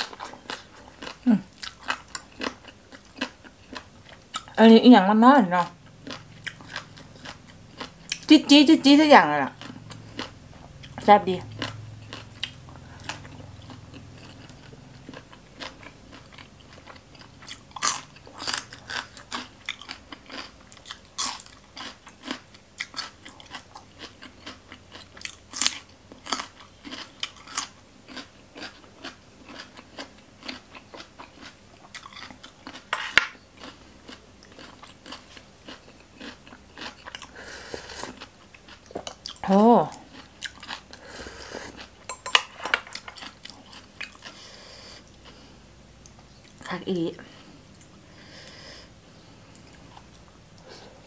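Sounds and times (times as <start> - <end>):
crunchy food chewing: 0.0 - 4.6, 5.6 - 8.3, 9.5 - 42.1, 42.8 - 46.7.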